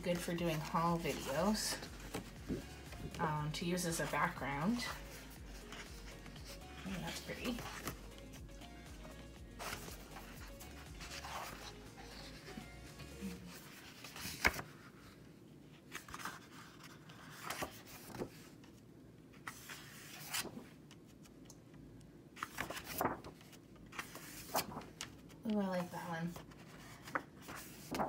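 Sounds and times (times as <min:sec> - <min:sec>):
paper rustling: 0:00.0 - 0:08.3, 0:09.6 - 0:15.2, 0:15.8 - 0:18.8, 0:19.4 - 0:21.3, 0:22.4 - 0:28.0.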